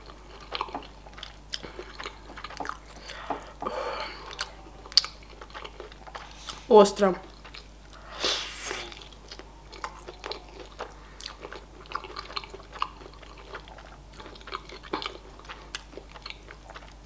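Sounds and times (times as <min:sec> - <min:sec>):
chewing and crunching fried chicken: 0:00.0 - 0:08.1, 0:08.9 - 0:17.0.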